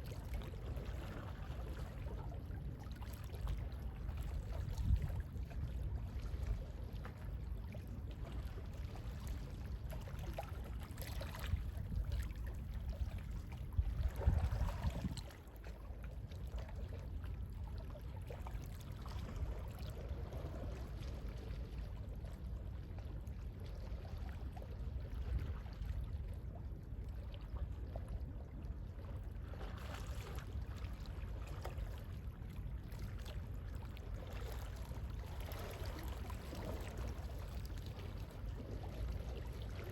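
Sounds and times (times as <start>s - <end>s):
gentle sea waves washing: 0.0s - 39.9s.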